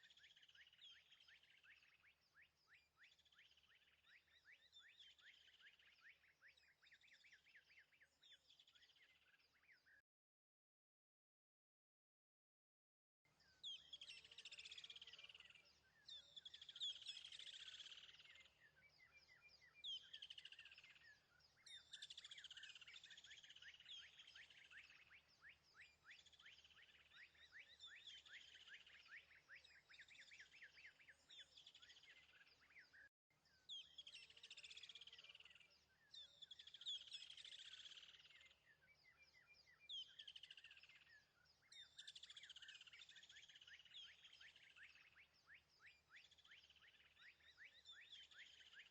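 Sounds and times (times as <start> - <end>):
birds chirping and trilling: 0.0 - 10.0, 13.4 - 48.9.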